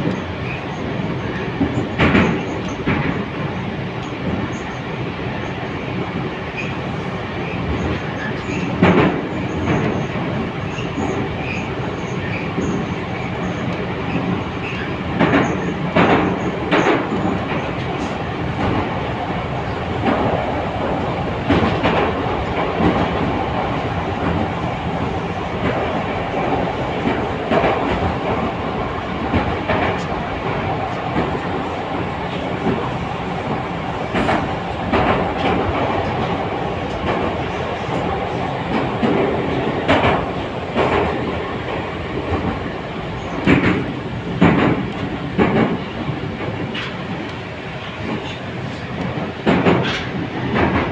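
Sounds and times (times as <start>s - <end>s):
metro car rumble in tunnel: 0.0s - 50.9s
wheels clacking on rail joints: 7.4s - 50.9s.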